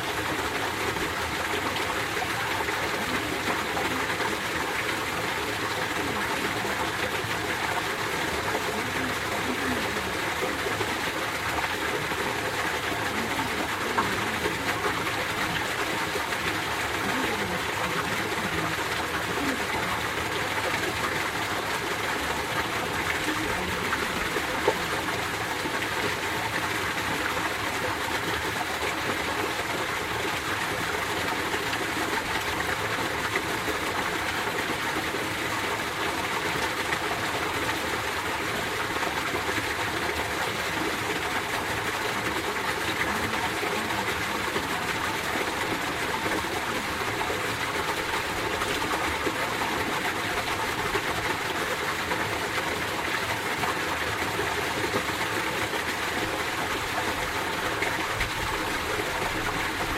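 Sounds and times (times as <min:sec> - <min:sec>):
water running over rocks: 0:00.0 - 0:59.9.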